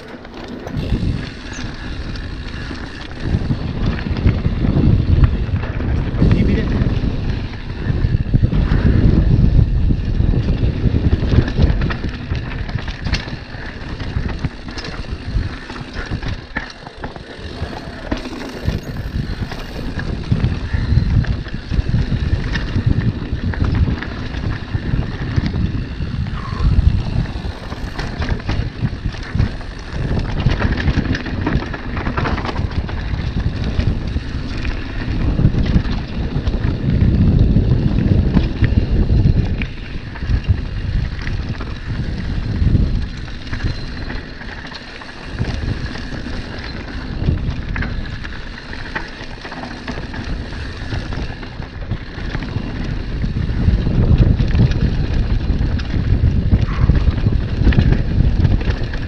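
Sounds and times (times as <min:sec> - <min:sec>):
bike clattering over bumps: 0:00.0 - 0:59.0
wind buffeting microphone: 0:00.0 - 0:59.0.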